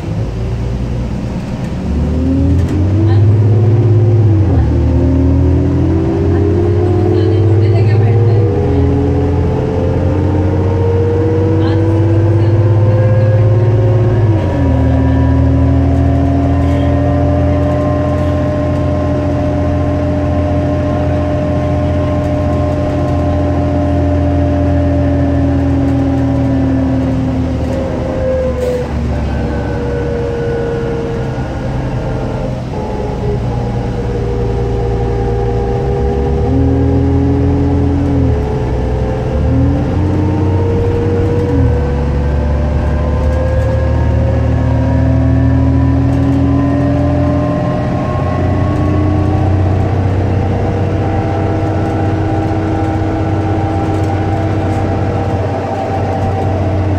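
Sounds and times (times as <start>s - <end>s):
bus engine hum with whine: 0.0s - 56.9s.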